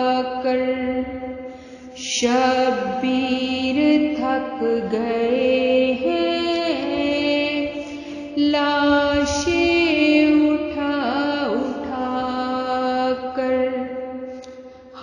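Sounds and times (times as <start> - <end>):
woman chanting lament: 0.0 - 14.2.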